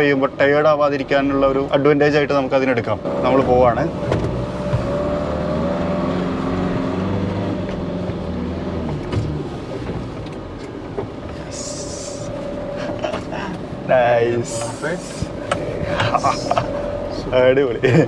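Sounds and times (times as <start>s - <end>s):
truck engine pulling: 0.0s - 18.0s.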